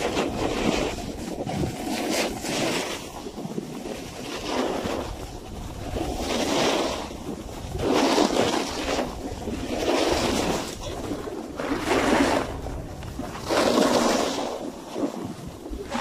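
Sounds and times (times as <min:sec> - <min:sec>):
snowboard scraping over snow: 0:00.0 - 0:16.0
wind buffeting microphone: 0:00.0 - 0:16.0.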